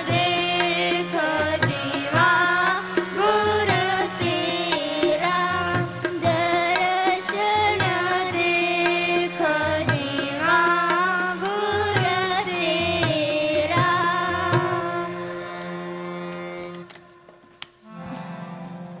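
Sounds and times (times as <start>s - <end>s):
person singing a hymn: 0.0s - 17.0s
tabla strokes: 0.0s - 17.0s
harmonium tones: 0.0s - 19.0s.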